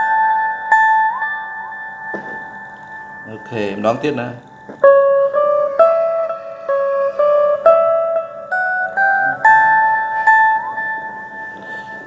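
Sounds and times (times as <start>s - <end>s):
electric guitar playing a scale: 0.0s - 12.0s.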